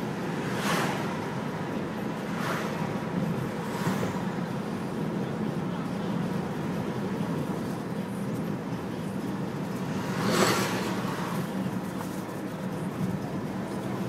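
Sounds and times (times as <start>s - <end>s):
road and engine noise in car: 0.0s - 14.0s.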